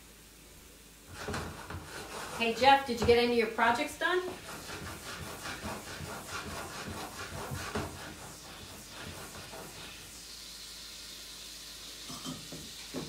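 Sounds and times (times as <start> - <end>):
glaze sizzling and popping in skillet: 1.1 - 13.0.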